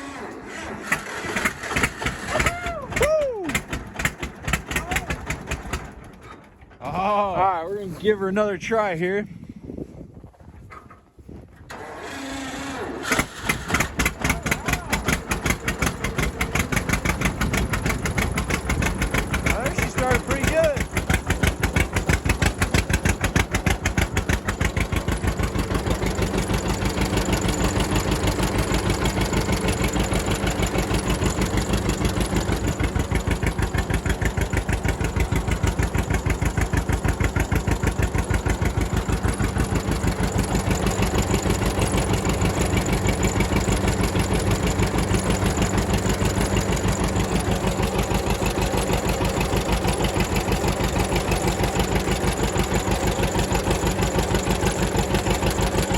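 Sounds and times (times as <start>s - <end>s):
tractor engine exhaust beats: 0.0s - 55.9s.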